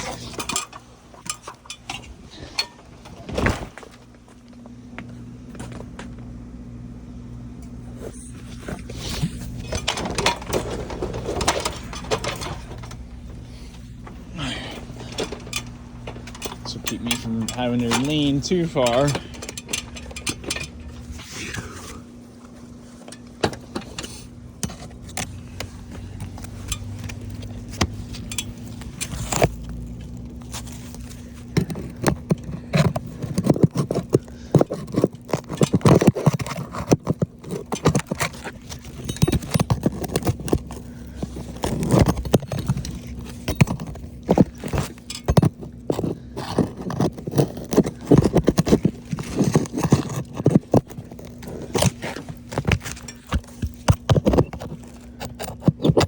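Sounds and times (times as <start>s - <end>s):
faint steady hum: 0.0s - 56.0s
scraping shingles: 8.0s - 56.0s.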